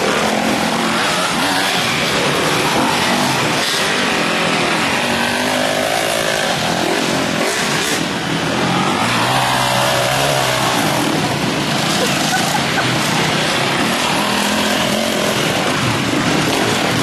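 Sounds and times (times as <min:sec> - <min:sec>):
motorcycles revving hard: 0:00.0 - 0:17.0.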